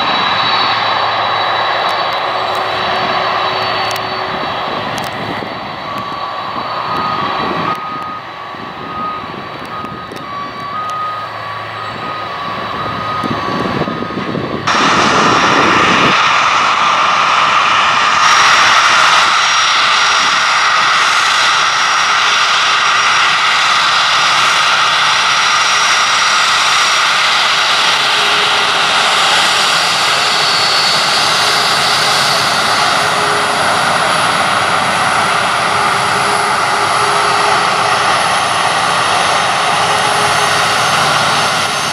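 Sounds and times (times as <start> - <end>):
jet airliner engines roaring: 0.0 - 41.9.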